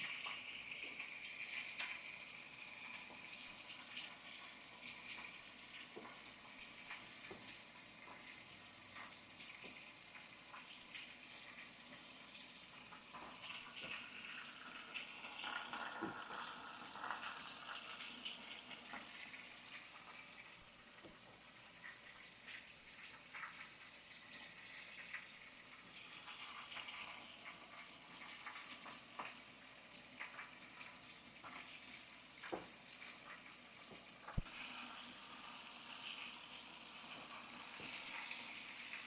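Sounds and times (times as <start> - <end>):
fish sizzling in hot oil: 0.0 - 39.0.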